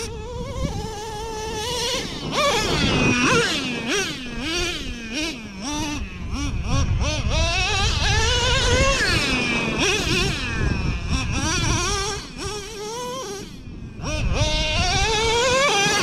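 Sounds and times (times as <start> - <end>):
model car engine revving: 0.0 - 16.0.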